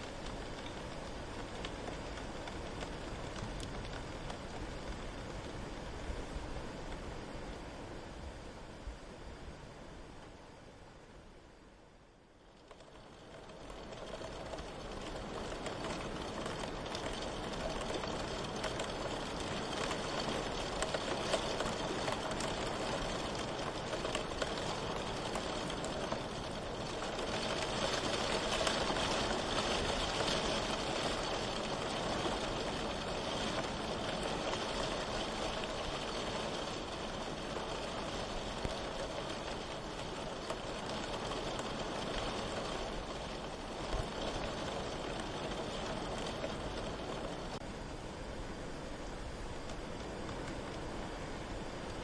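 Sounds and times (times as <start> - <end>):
rain falling: 0.0 - 9.2, 10.0 - 52.0.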